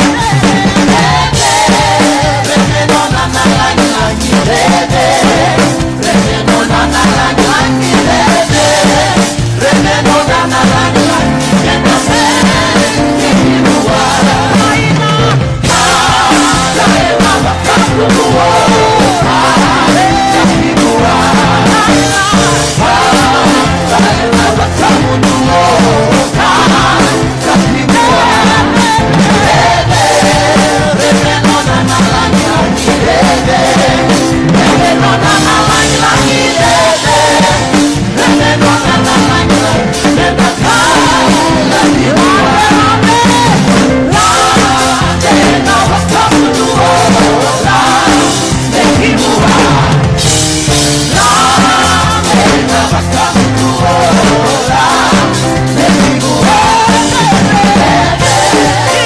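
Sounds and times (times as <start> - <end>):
live band playing worship song: 0.0 - 59.0
voices singing: 0.0 - 59.0.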